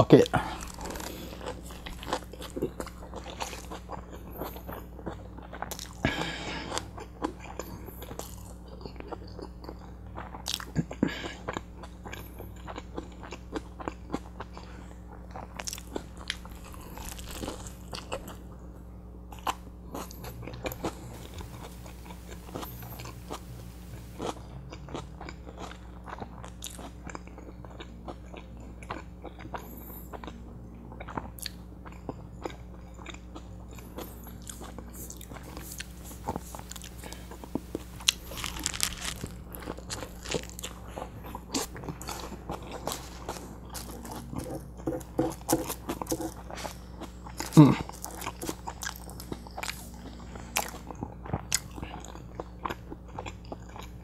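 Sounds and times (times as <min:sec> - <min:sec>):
steady low hum: 0:00.0 - 0:54.0
person chewing food: 0:00.1 - 0:54.0.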